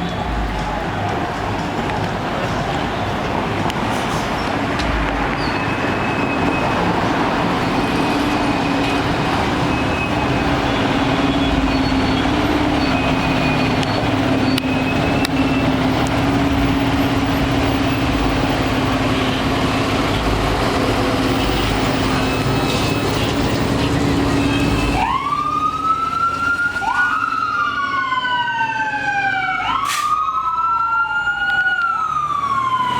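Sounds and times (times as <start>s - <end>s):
heavy vehicle engine running: 0.0s - 26.8s
road noise: 0.0s - 32.9s.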